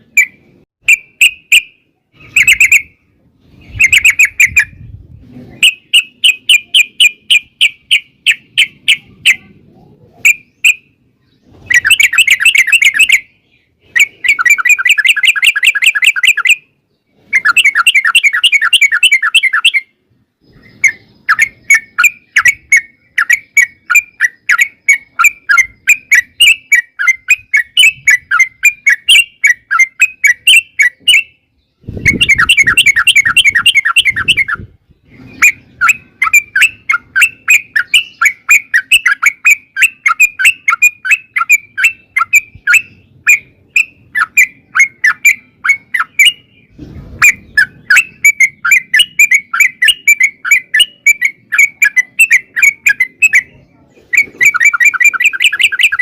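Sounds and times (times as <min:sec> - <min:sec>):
bird singing chattering phrases: 0:00.0 - 0:04.9, 0:05.5 - 0:56.0.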